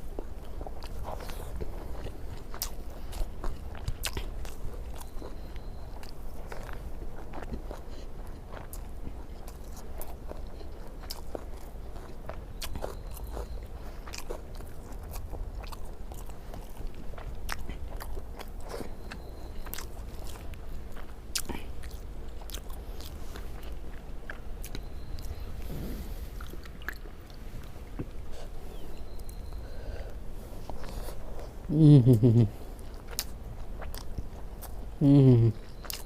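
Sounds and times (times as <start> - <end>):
person chewing and mouth sounds: 0.0 - 36.0
steady low hum: 0.0 - 36.0.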